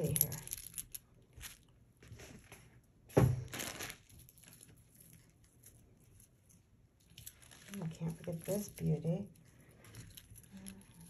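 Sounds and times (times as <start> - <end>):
jewelry handling sounds: 0.0 - 11.0.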